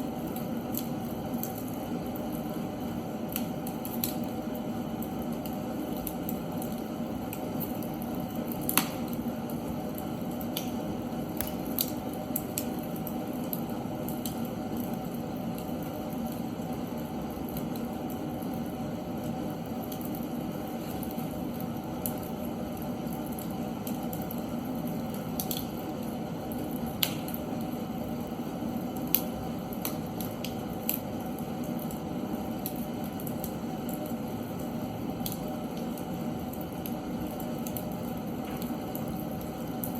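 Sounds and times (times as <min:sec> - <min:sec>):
logs burning in a fireplace: 0:00.0 - 0:39.9.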